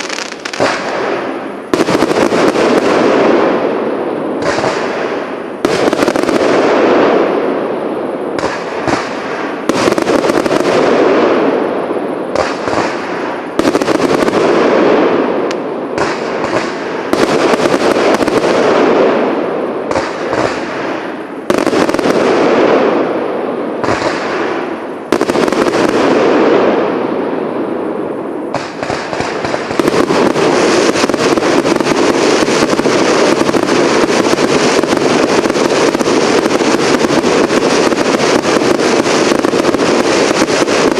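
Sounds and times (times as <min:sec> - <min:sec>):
fireworks bangs with hiss: 0:00.0 - 0:40.9
rapid fireworks pops and crackles: 0:00.0 - 0:40.9.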